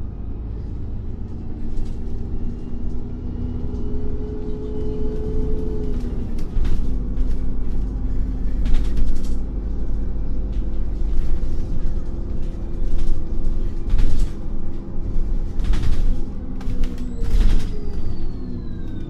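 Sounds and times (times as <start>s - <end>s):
bus engine idling: 0.0s - 19.0s.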